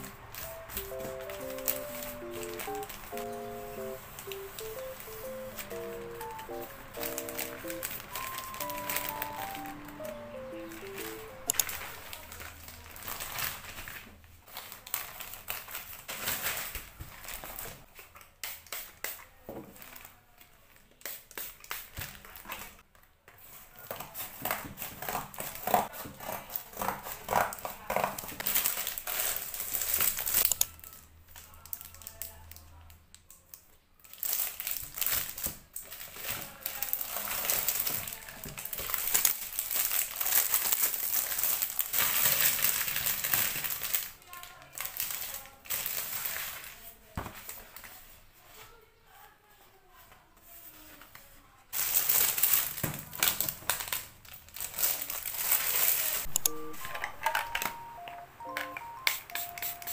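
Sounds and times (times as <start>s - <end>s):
plastic packaging crinkling: 0.0s - 23.1s, 23.7s - 32.7s, 34.0s - 48.6s, 51.7s - 58.0s.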